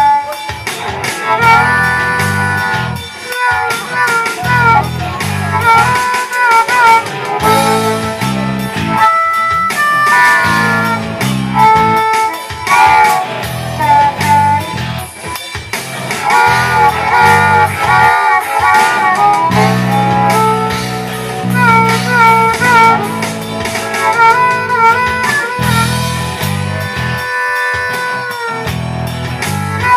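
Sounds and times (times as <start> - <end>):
bending lead guitar line: 0.0 - 29.9
blues-rock band playing: 0.0 - 29.9
repeating bass line: 0.8 - 9.1, 9.8 - 27.3, 28.6 - 29.9.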